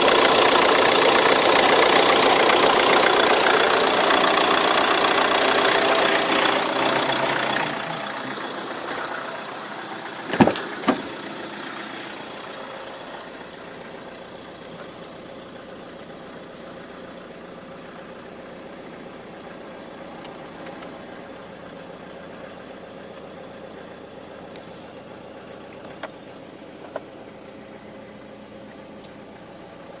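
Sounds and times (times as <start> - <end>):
van engine idling: 0.0 - 30.0.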